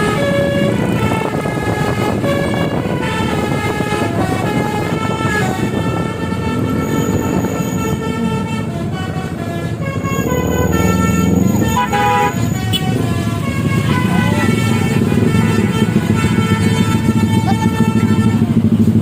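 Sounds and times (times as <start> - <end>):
musical air horn tune: 0.0 - 18.8
bus engine running: 0.0 - 19.0.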